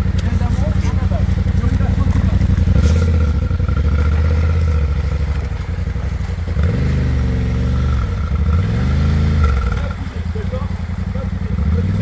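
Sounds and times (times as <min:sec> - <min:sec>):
fast-flowing river: 0:00.0 - 0:12.0
motorcycle engine idling and revving: 0:00.0 - 0:12.0.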